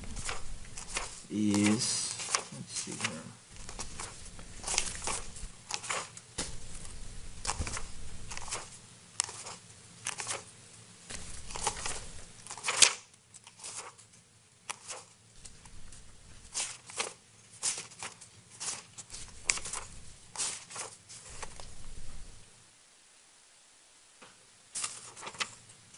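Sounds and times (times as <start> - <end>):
paper pages turning: 0.0 - 10.5, 11.1 - 22.4, 24.7 - 25.8
faint low hum: 0.0 - 25.9.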